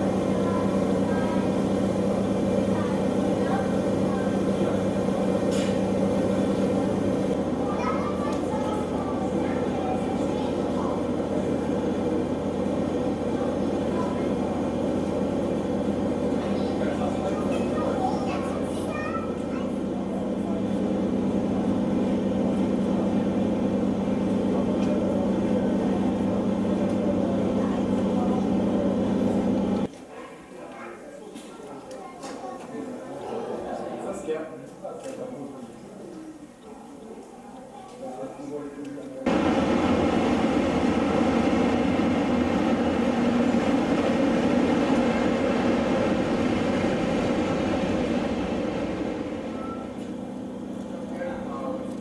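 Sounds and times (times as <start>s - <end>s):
diesel locomotive engine running: 0.0s - 29.9s, 39.3s - 52.0s
low mechanical hum: 0.0s - 29.9s, 39.2s - 52.0s.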